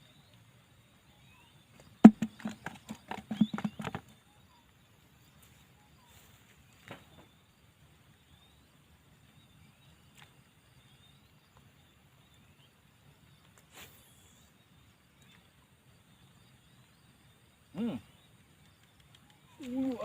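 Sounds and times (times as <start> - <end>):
faint high chirps: 0.0 - 7.5, 8.1 - 20.0.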